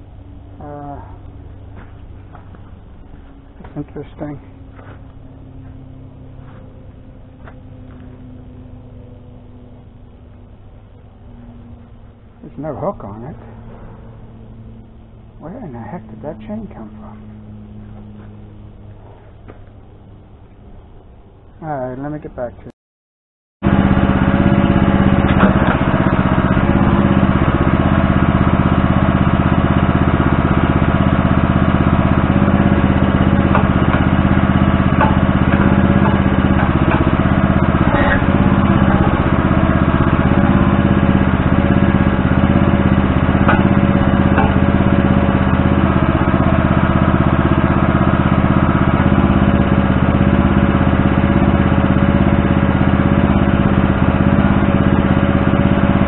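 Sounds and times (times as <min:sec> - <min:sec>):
backhoe engine running: 0:00.0 - 0:21.2, 0:23.6 - 0:56.0.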